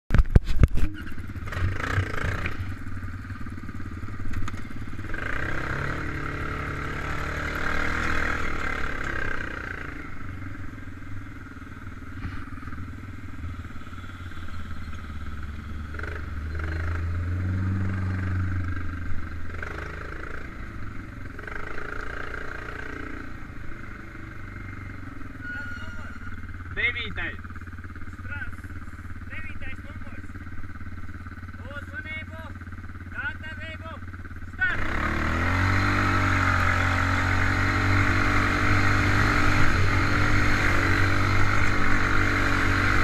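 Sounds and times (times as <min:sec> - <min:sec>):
quad bike engine revving: 0:00.6 - 0:43.0.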